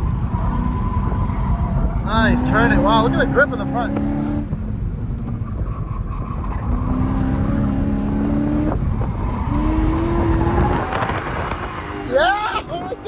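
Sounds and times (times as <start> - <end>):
car engine pulling under load: 0.0 - 13.0.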